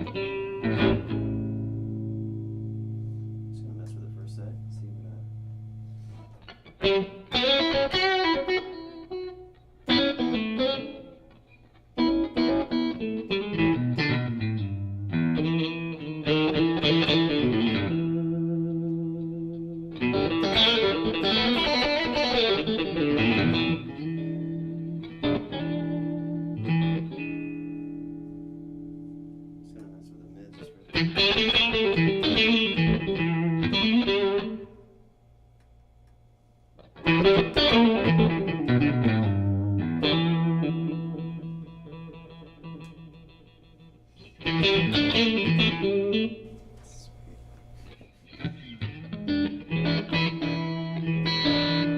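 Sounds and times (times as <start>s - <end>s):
overdriven electric guitar blues licks: 0.0s - 3.5s, 5.2s - 30.0s, 30.6s - 34.8s, 36.8s - 46.8s, 47.8s - 51.9s.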